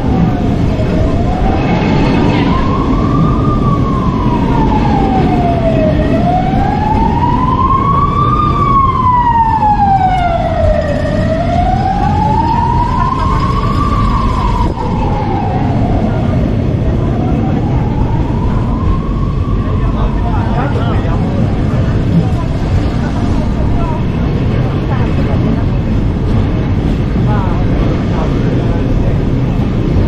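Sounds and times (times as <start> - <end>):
emergency siren wailing: 0.0 - 30.0
low traffic rumble: 0.0 - 30.0.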